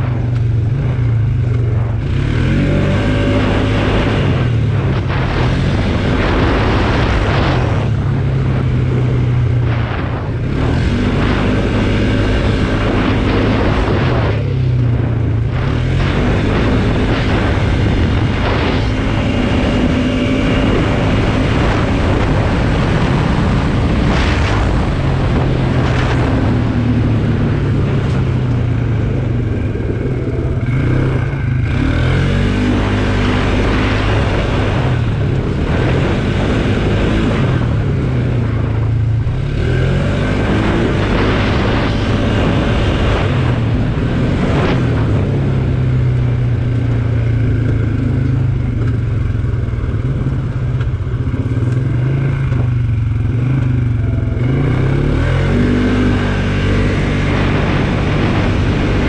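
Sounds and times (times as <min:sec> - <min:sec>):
atv engine revving: 0:00.0 - 0:59.0
wind and trail noise: 0:00.0 - 0:59.0.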